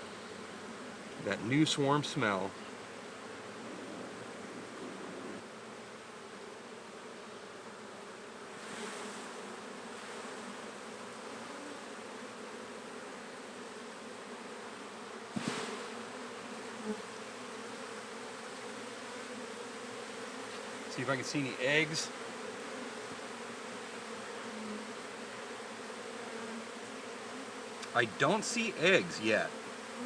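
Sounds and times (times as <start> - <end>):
honey bees humming: 0.0 - 8.6, 9.4 - 30.0.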